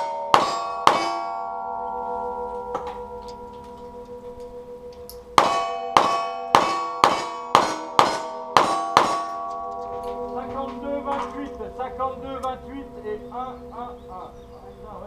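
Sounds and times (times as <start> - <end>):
steel target ringing clang: 0.0 - 13.1.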